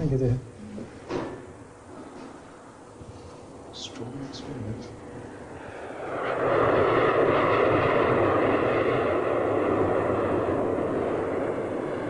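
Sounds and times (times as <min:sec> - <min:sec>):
jet passing close by: 0:01.2 - 0:12.0.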